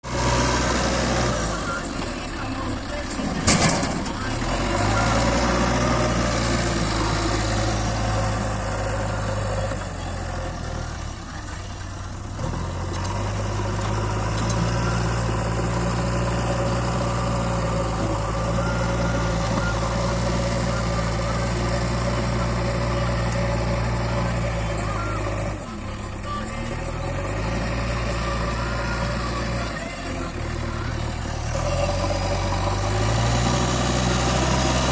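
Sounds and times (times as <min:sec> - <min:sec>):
diesel machinery engine humming: 0:00.0 - 0:34.9.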